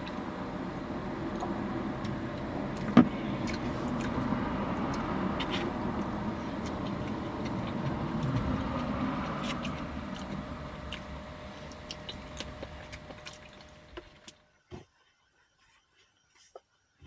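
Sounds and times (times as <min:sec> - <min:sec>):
road noise: 0:00.0 - 0:14.3
vehicle engine rumble: 0:00.0 - 0:14.3.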